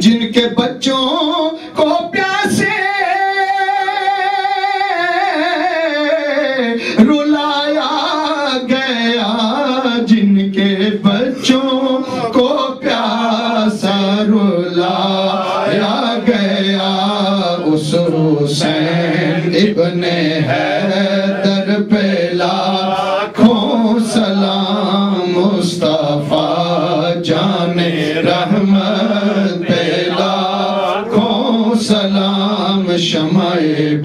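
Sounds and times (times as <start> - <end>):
man chanting into a microphone: 0.0 - 34.0.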